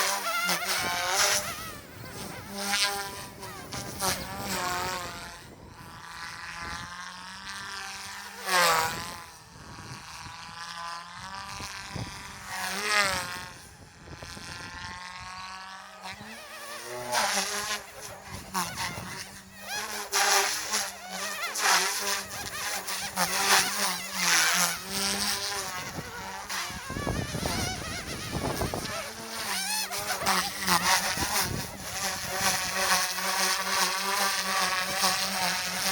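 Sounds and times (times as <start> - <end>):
rotor swishes: 0.0 - 35.9
toy helicopter motor whine: 0.0 - 35.9.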